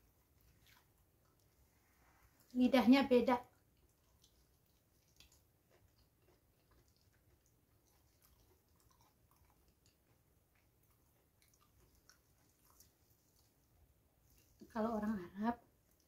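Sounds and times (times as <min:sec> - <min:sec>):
faint chewing: 0:00.0 - 0:16.0.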